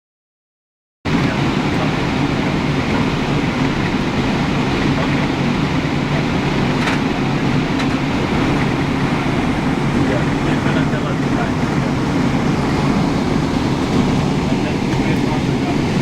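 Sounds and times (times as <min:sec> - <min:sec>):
jet engine rumble in cabin: 0:01.1 - 0:16.0.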